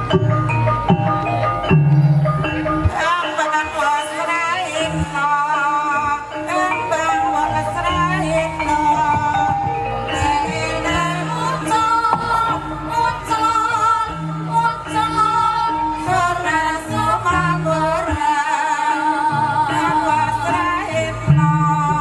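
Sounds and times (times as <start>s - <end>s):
gamelan metallophones ringing: 0.0s - 22.0s
woman singing long wavering notes: 2.9s - 22.0s.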